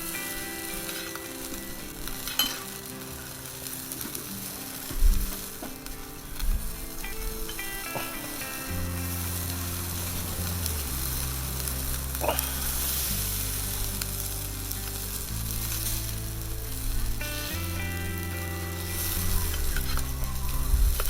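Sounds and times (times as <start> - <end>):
skewers sizzling over charcoal: 0.0 - 21.0
slow sustained background music: 0.0 - 21.0.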